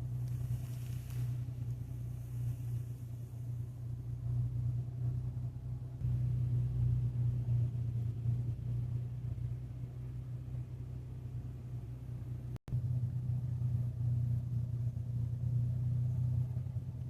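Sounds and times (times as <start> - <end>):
automatic car wash rumbling: 0.0 - 17.0.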